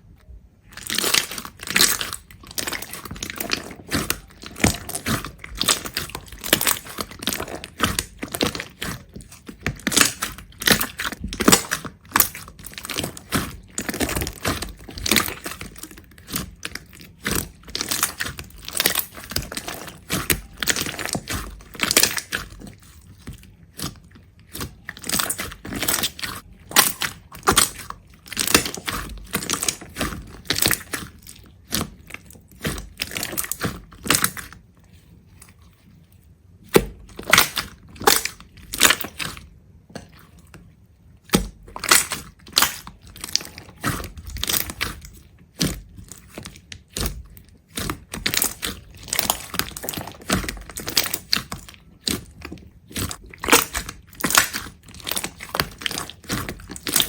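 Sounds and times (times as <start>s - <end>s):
brittle material crunching and crackling: 0.6s - 57.0s.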